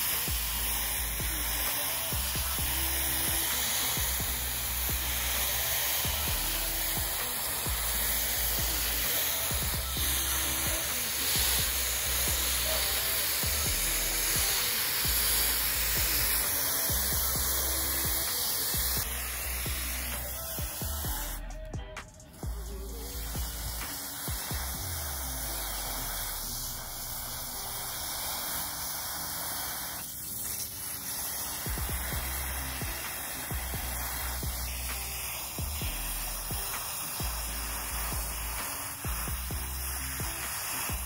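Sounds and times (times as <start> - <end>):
background music: 0.0 - 41.0
hose nozzle spraying water: 0.0 - 41.0.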